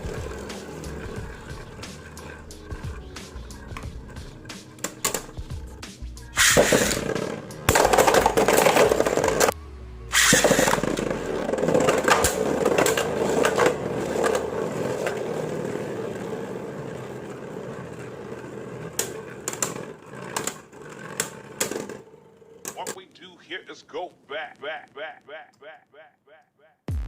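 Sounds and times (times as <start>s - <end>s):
spinning top whirring and rattling: 0.0s - 22.7s.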